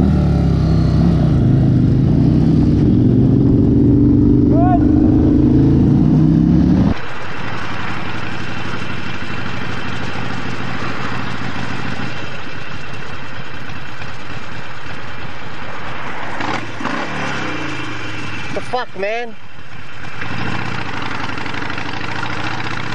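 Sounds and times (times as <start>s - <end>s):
motorcycle engine running: 0.0s - 22.9s
wind and road noise: 0.0s - 22.9s.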